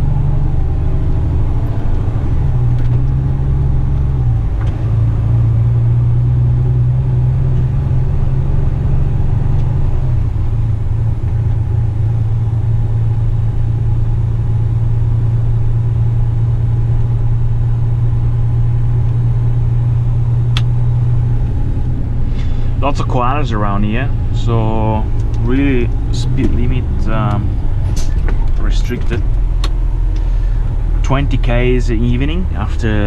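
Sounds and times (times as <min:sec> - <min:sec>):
truck diesel engine running: 0:00.0 - 0:33.0.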